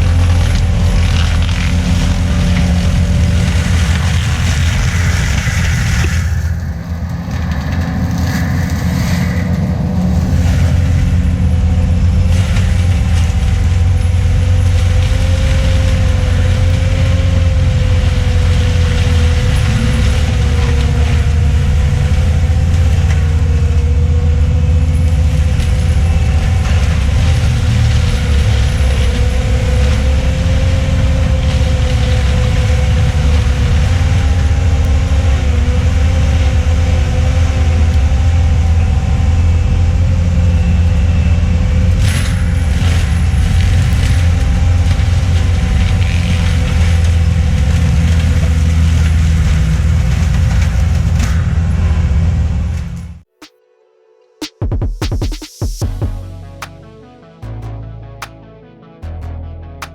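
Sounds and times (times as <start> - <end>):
forestry mulcher droning: 0.0 - 53.3, 55.8 - 59.9.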